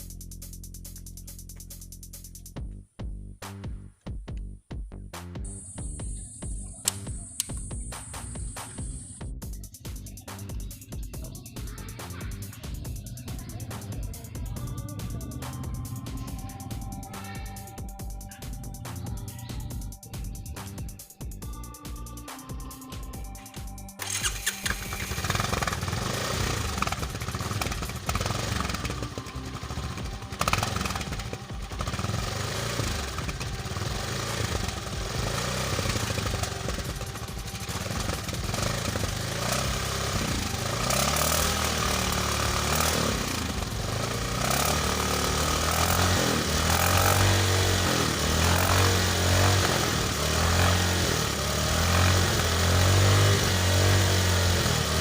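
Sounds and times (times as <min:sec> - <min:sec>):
motorcycle exhaust note: 0:05.4 - 0:55.0.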